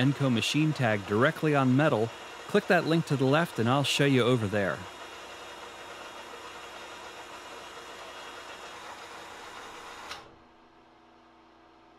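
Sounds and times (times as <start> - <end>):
metal lathe running: 0.0 - 10.2.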